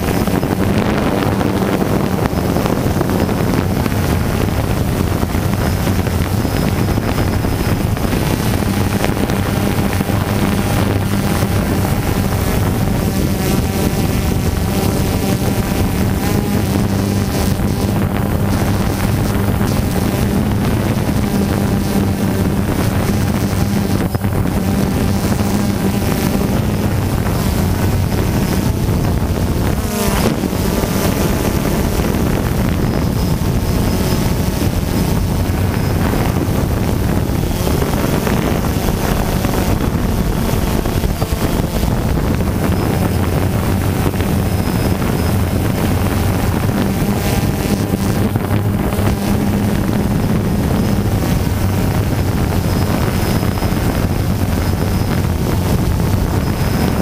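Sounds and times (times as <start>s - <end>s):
drone propellers whirring: 0.0s - 57.0s
wind buffeting microphone: 0.0s - 57.0s.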